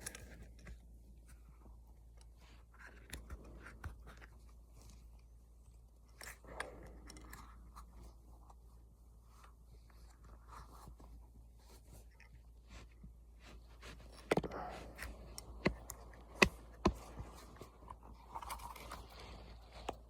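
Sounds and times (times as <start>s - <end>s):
small clicks and rubbing: 0.0s - 20.0s.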